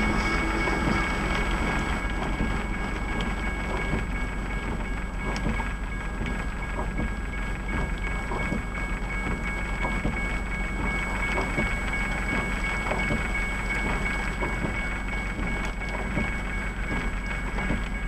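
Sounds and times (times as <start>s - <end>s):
car engine idling: 0.0s - 18.0s
rain pattering on a car: 0.8s - 18.0s.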